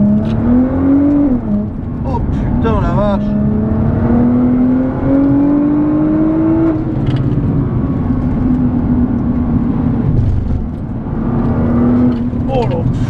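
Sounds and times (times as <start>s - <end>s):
car engine accelerating: 0.0s - 13.0s
road noise rumble: 0.0s - 13.0s.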